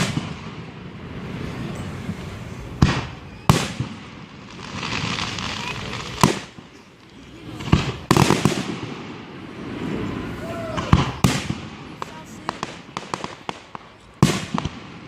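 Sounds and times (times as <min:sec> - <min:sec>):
fireworks booms: 0:00.0 - 0:15.0
fireworks crackling: 0:00.0 - 0:15.0.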